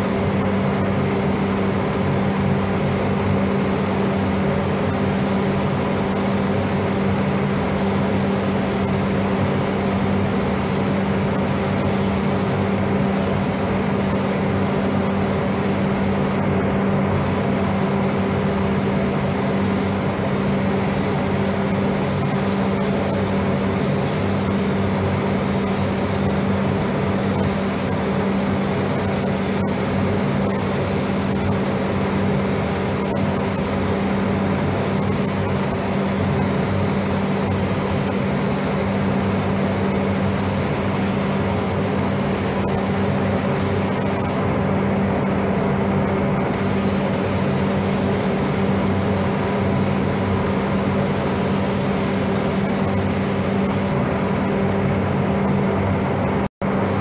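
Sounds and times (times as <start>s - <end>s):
ventilation fans humming: 0.0s - 57.0s.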